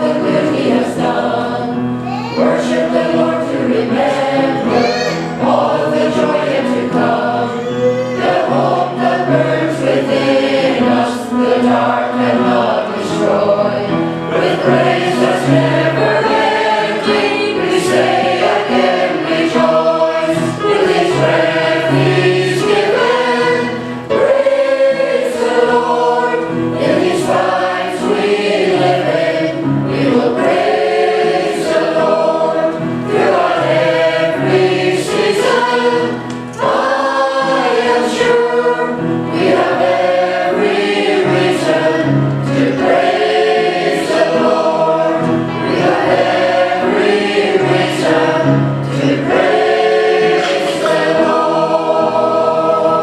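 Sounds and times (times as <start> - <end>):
choir singing a hymn: 0.0 - 53.0
low accompanying notes: 8.1 - 53.0.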